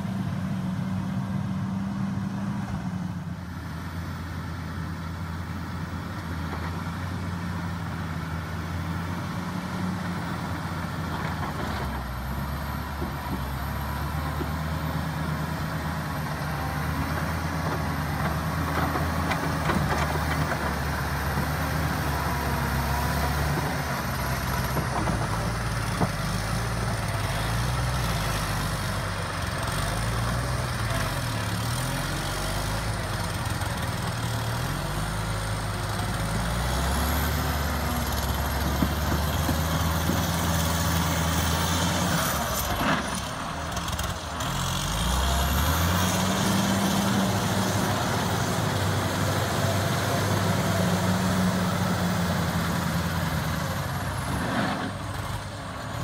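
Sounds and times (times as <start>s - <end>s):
motor grader diesel engine running: 0.0s - 56.0s.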